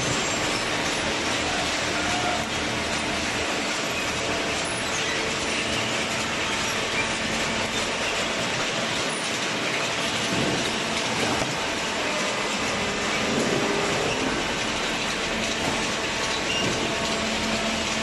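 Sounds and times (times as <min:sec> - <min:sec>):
baling machine clatter: 0:00.0 - 0:18.0.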